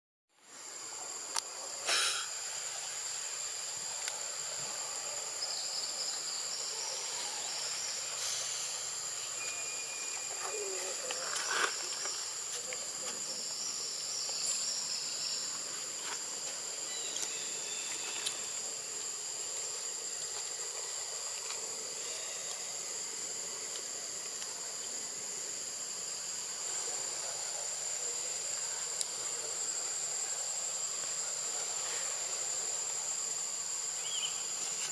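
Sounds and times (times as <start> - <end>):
insects droning: 0.3 - 34.9.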